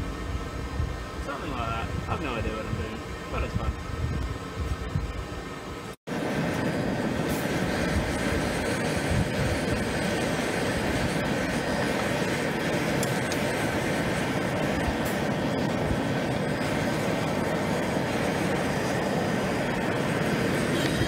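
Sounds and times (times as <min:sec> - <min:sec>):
forge fire roaring: 0:00.0 - 0:21.0.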